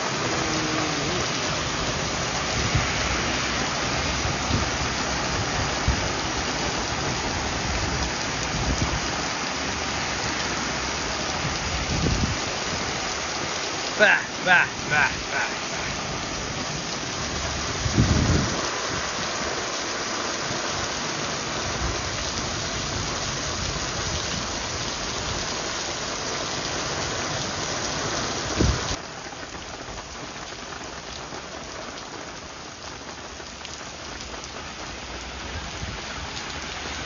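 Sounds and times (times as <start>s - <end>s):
heavy rain on pavement: 0.0s - 37.0s.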